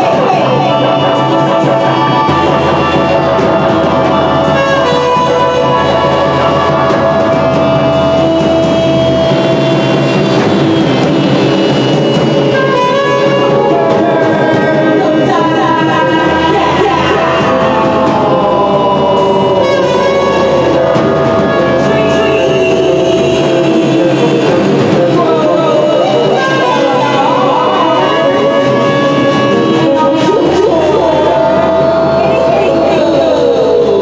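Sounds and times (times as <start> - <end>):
low droning bass: 0.0 - 34.0.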